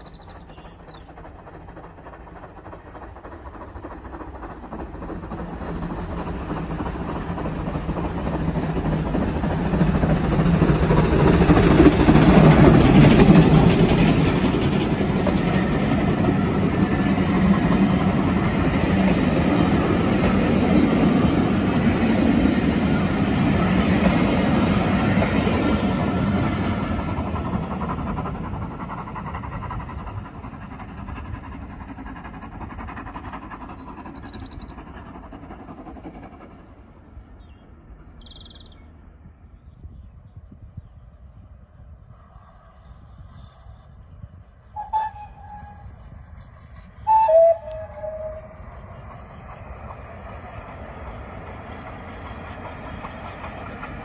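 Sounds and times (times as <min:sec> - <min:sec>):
steam locomotive passing: 0:00.0 - 0:54.0
train wheels rumbling on track: 0:00.0 - 0:54.0.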